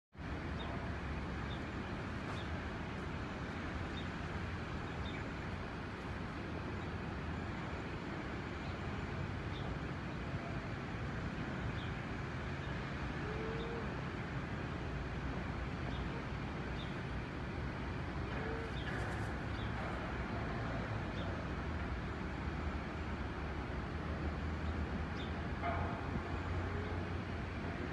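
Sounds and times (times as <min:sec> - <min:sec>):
distant traffic: 0:00.2 - 0:27.9.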